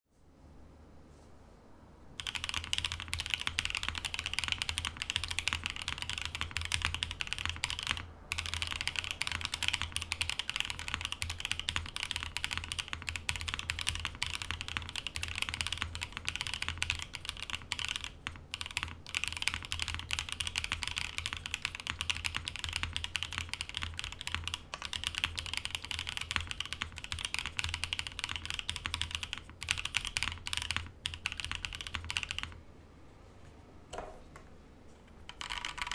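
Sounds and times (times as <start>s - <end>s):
fast mechanical keyboard typing: 2.2s - 32.6s, 35.2s - 35.9s.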